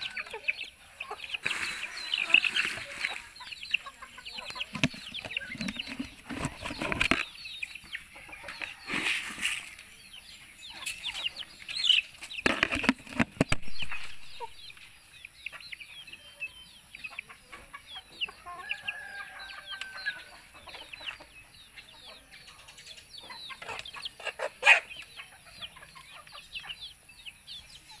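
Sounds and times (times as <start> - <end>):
chickens clucking and peeping: 0.0 - 28.0.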